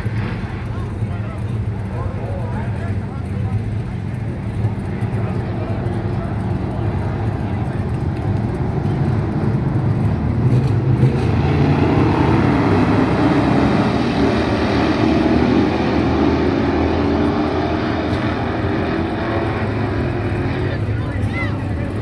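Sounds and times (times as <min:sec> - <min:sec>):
race car engines revving: 0:00.0 - 0:22.0.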